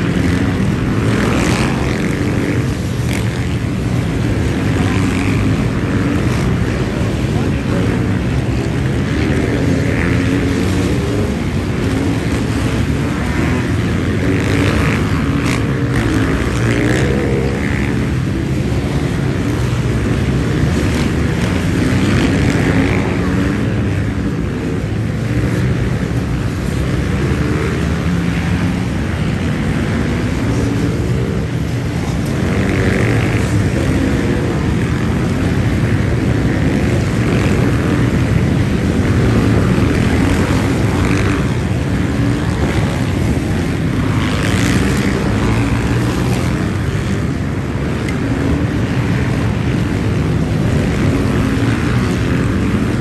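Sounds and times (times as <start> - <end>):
motorcycles passing: 0.0 - 53.0.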